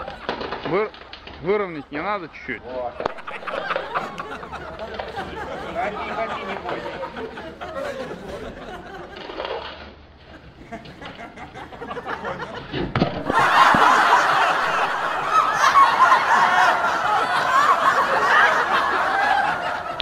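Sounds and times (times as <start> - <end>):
studio audience laugh track: 0.0 - 20.0.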